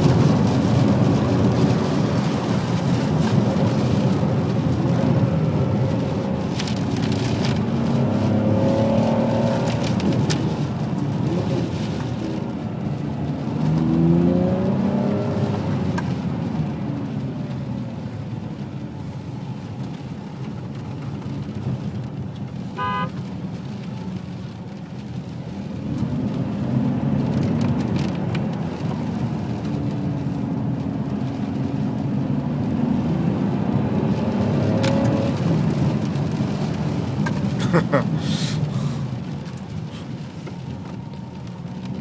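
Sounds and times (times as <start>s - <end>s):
car engine revving: 0.0s - 17.2s, 25.0s - 42.0s.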